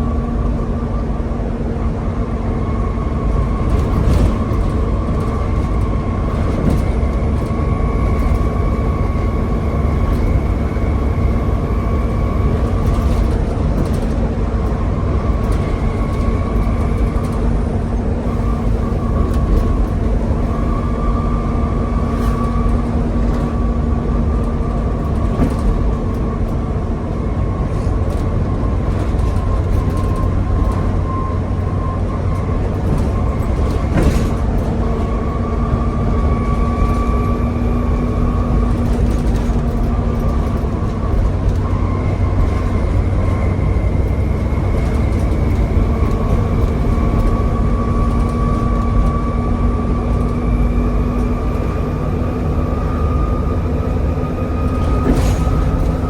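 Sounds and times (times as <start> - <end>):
bus engine and road rumble: 0.0 - 56.0
high steady bus whine: 0.0 - 56.0.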